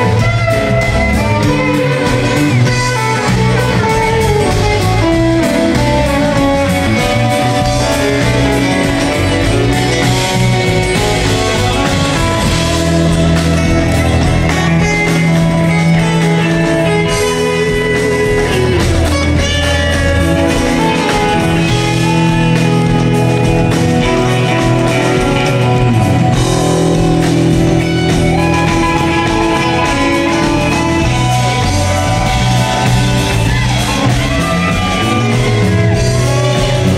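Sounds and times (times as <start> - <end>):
electric guitar: 0.0 - 36.9
live rock band: 0.0 - 36.9.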